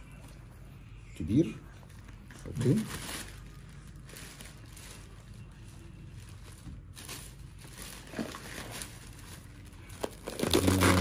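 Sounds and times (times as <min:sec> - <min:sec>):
plastic bags rustling: 0:01.9 - 0:11.0.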